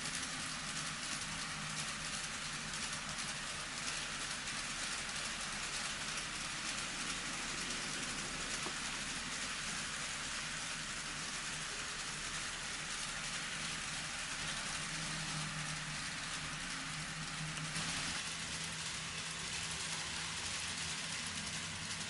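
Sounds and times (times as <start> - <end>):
low motor hum: 0.0 - 22.0
metal wheels hissing on rails: 0.0 - 22.0.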